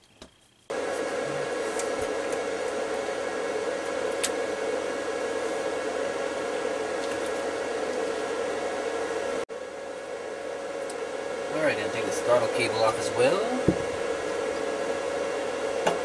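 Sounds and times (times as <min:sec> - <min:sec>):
fan whirring with hum: 0:00.0 - 0:16.0.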